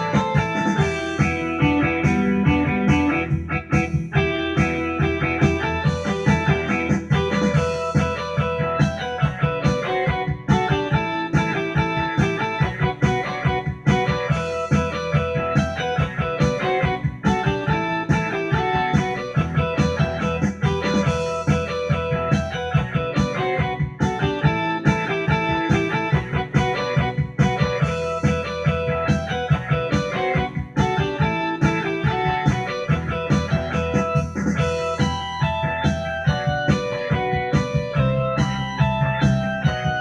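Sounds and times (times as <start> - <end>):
drum and bass beat: 0.0 - 40.0
electronic keyboard blues-rock tune: 0.0 - 40.0.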